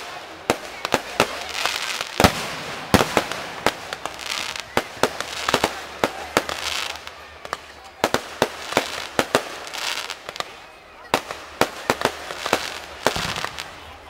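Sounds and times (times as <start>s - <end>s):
fireworks bangs: 0.0s - 14.0s
fireworks hiss and crackle: 0.0s - 14.0s.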